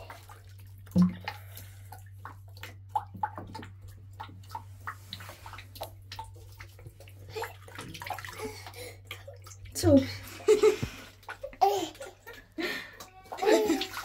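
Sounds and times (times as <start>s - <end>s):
water splashing and dripping: 0.0s - 14.0s.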